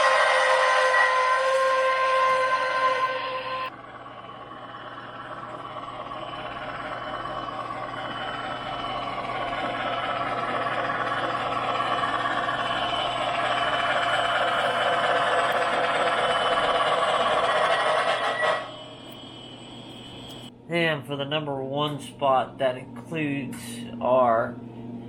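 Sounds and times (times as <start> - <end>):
model train running: 0.0 - 20.5
steady whistle-like tone: 0.0 - 20.5.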